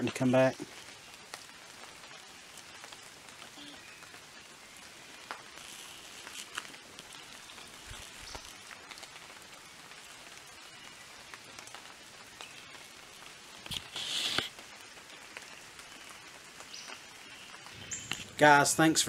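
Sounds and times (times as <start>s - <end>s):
creek trickling over stones: 0.0s - 19.0s.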